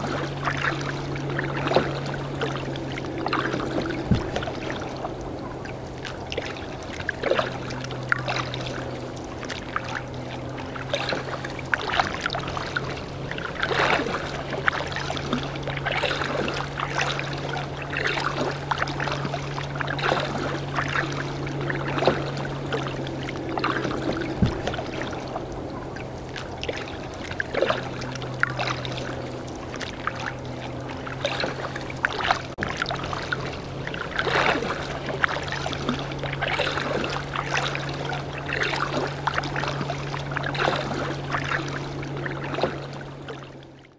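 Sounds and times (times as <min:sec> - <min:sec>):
paddle splashing water: 0:00.0 - 0:43.9
water lapping at hull: 0:00.0 - 0:43.9.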